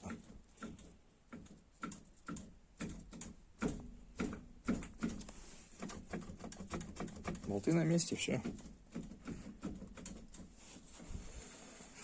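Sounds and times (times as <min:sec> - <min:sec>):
light clicks and knocks: 0:00.0 - 0:11.1.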